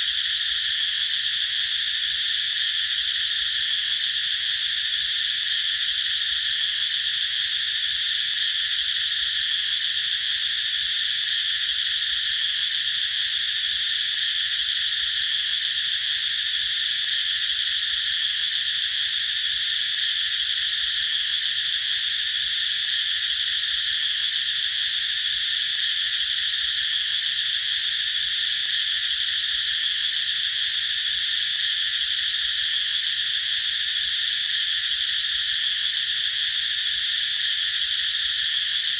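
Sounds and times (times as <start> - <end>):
cicadas droning: 0.0 - 38.9.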